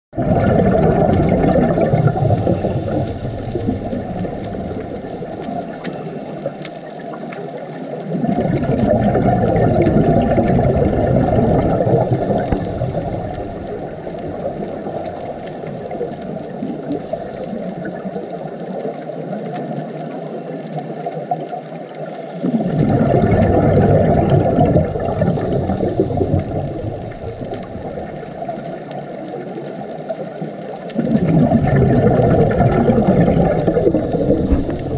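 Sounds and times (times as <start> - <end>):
underwater bubbles rushing: 0.1 - 34.9
underwater water noise: 0.1 - 34.9.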